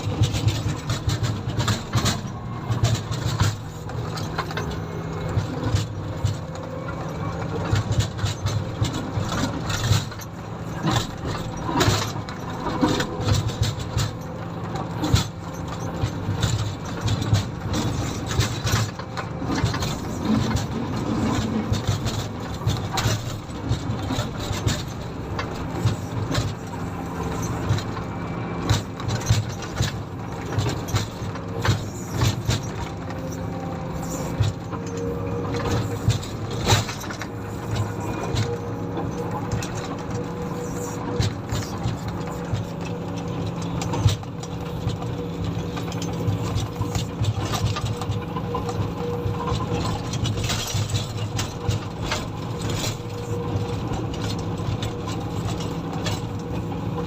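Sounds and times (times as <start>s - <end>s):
diesel engine running: 0.0s - 57.0s
machine rattles and knocks: 0.0s - 57.0s.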